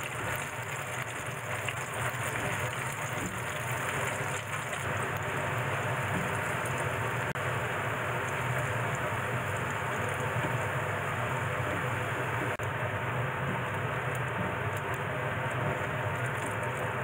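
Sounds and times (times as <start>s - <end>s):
deep-frying sizzle in oil: 0.0s - 17.0s.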